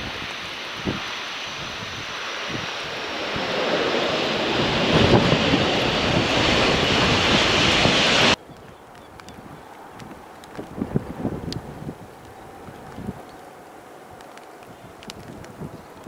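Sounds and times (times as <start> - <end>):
airliner engines rushing: 0.0 - 16.0
wind buffeting microphone: 0.0 - 16.0.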